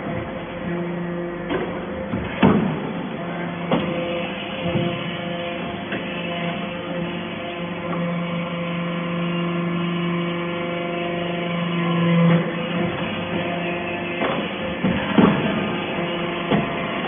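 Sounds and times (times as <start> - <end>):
baler machine hum: 0.0 - 17.0.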